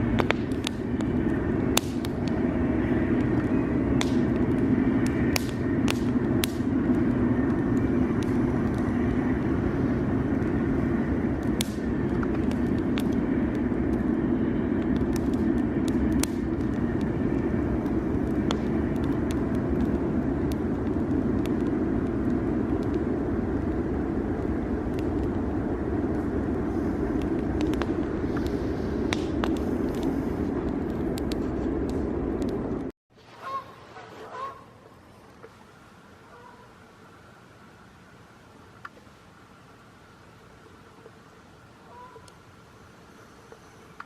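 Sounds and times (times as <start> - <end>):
campfire crackling: 0.0 - 33.6, 34.4 - 44.0
low rumble of vehicle noise: 0.0 - 44.0.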